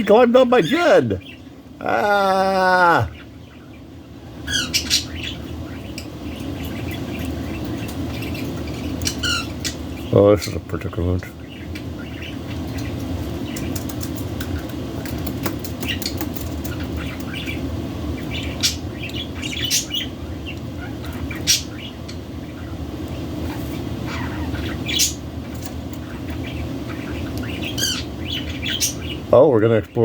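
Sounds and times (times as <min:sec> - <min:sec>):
budgerigars chirping: 0:00.0 - 0:01.5, 0:03.2 - 0:14.8, 0:15.4 - 0:29.9
low background noise: 0:00.0 - 0:30.0.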